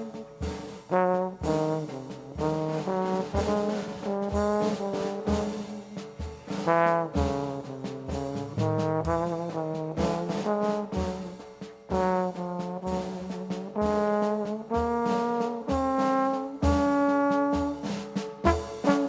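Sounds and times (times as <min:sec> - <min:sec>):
brass melody: 0:00.0 - 0:19.0
steady low beat: 0:00.0 - 0:19.0.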